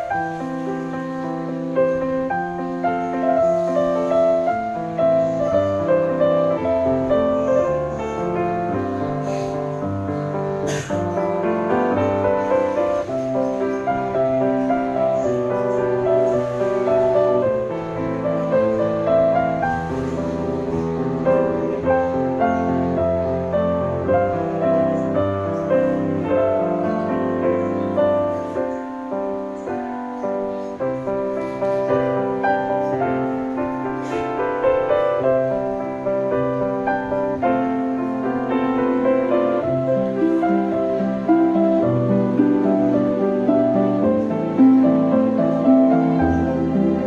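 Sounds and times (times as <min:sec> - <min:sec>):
piano music: 0:00.0 - 0:47.0.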